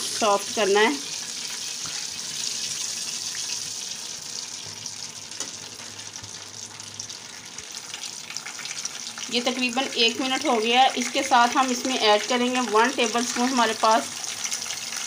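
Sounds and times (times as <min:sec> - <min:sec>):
spices sizzling in hot fat: 0:00.0 - 0:15.0.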